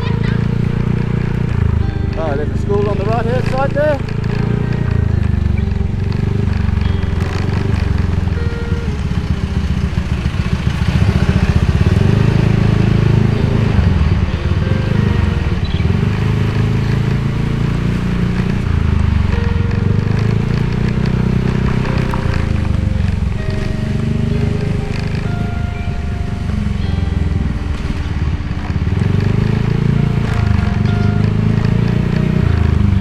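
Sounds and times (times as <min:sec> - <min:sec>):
motorcycle engine running: 0:00.0 - 0:33.0
road noise: 0:00.0 - 0:33.0.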